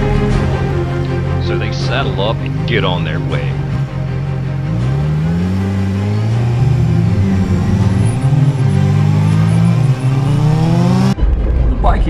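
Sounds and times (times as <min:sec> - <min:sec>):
motorcycle engine accelerating: 0:01.1 - 0:11.3.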